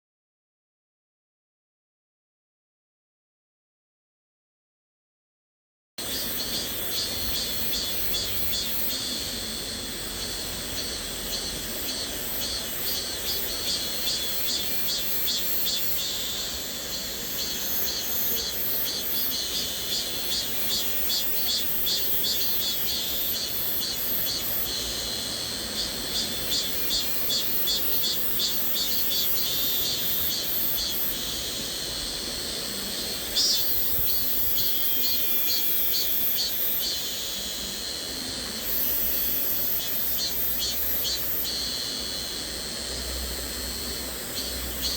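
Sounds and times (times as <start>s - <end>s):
cicadas buzzing: 6.0s - 44.9s.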